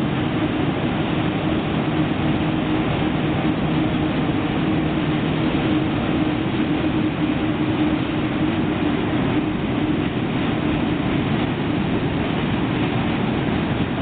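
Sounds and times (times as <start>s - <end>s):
freight train rumbling over bridge: 0.0s - 14.0s.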